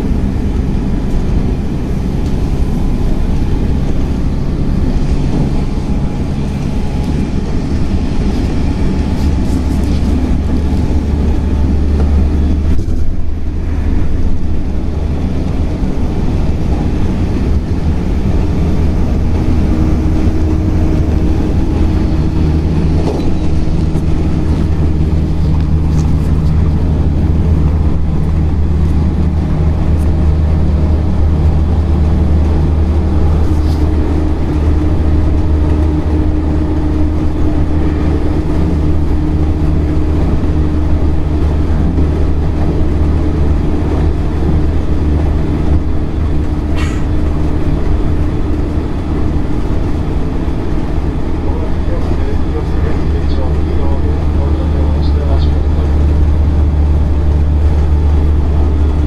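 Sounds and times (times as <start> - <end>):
steady humming tones: 0.0 - 59.0
train wheels rumbling on rails: 0.0 - 59.0.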